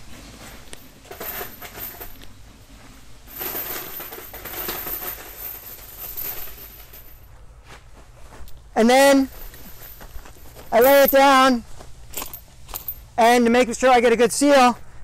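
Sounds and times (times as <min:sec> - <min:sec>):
chain rattling dragged on soil: 0:00.0 - 0:07.4, 0:08.3 - 0:13.5.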